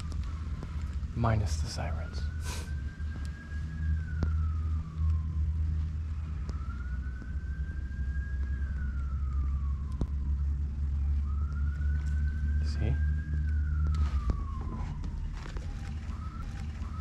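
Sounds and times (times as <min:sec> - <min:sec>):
low steady rumble: 0:00.0 - 0:17.0
siren wailing: 0:00.0 - 0:17.0.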